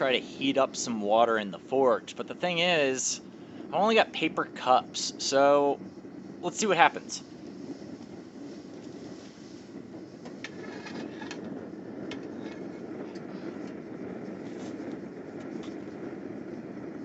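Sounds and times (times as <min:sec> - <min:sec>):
forge rushing noise: 0:00.0 - 0:17.0.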